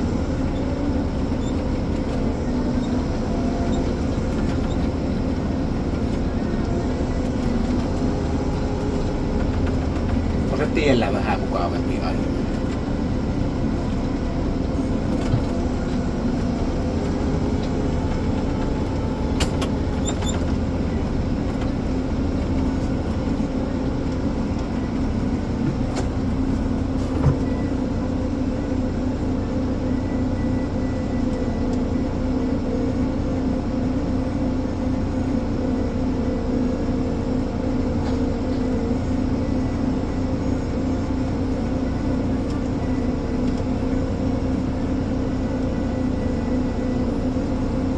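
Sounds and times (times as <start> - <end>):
diesel engine droning: 0.0 - 47.9.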